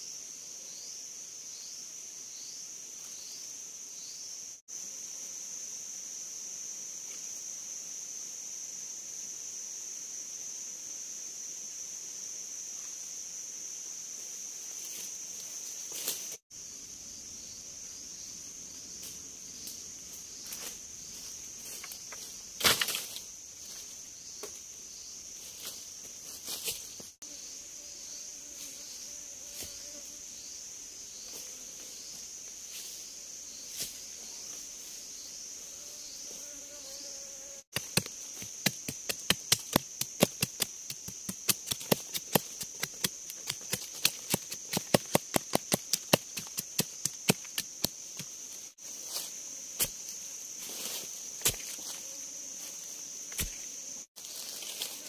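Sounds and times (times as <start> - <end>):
forest insects buzzing: 0.0 - 55.0.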